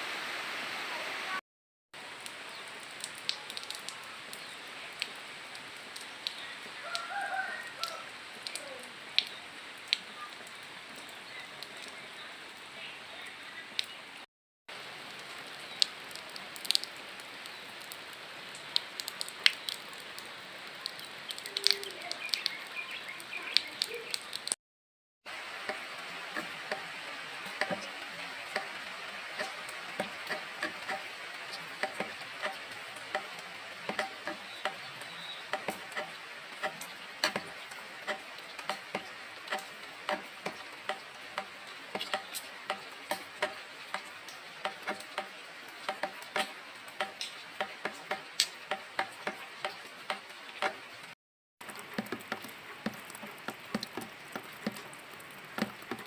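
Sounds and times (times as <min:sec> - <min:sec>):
rain hissing: 0:00.0 - 0:01.4, 0:02.0 - 0:24.6, 0:25.3 - 0:56.0
sharp drips: 0:02.0 - 0:14.0, 0:14.7 - 0:24.6, 0:25.3 - 0:56.0.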